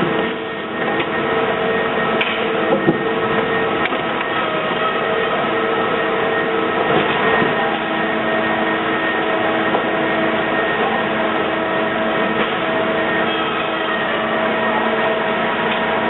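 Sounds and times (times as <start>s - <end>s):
loud mechanical whir: 0.0s - 16.0s
whining motor tones: 0.0s - 16.0s.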